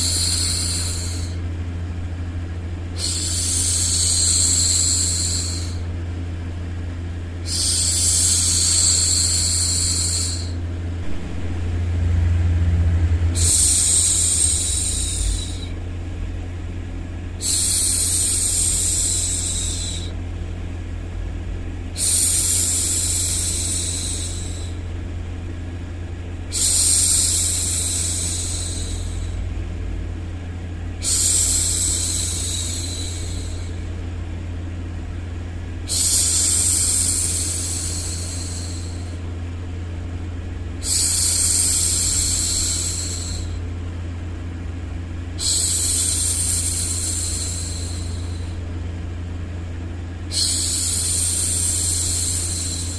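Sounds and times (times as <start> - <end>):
low white-noise hum: 0.0 - 52.9.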